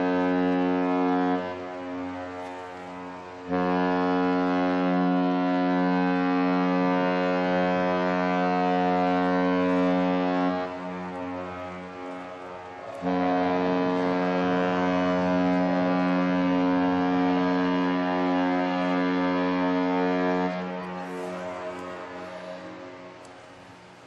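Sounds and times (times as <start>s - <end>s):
ship's horn blowing: 0.0s - 23.7s.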